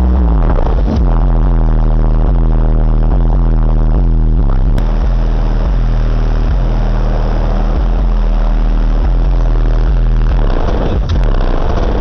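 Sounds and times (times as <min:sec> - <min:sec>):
loud bass-heavy music from subwoofers: 0:00.0 - 0:12.0.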